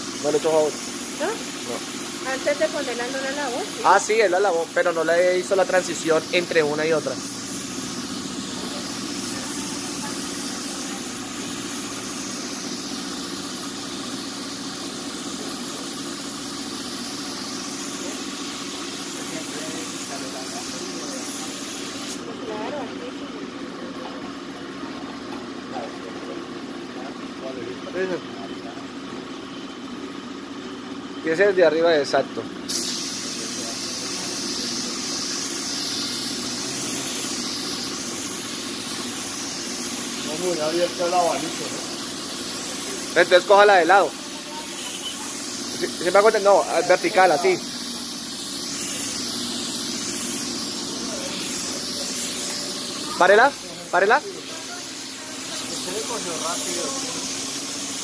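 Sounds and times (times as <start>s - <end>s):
spray gun air hiss: 0.0s - 22.3s, 32.6s - 58.0s
air compressor pulsing: 0.0s - 58.0s.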